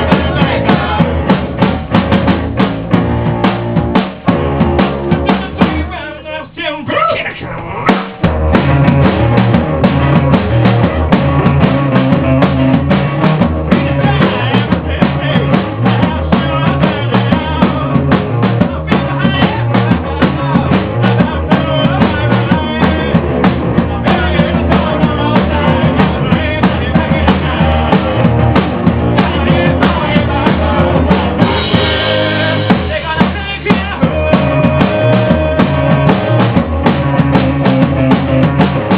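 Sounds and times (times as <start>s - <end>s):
drum kit beat: 0.0s - 38.9s
rock band playing: 0.0s - 38.9s.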